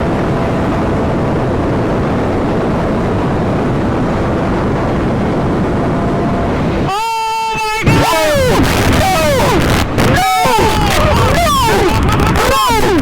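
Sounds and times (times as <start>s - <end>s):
faint steady whine: 0.0s - 13.0s
wind and road noise: 0.0s - 13.0s.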